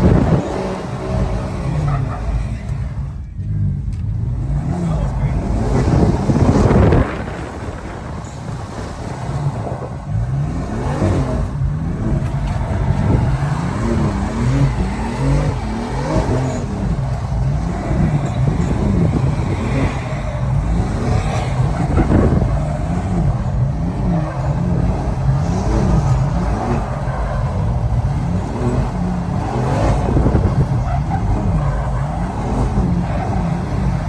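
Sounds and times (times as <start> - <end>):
car engine revving hard: 0.0 - 34.0.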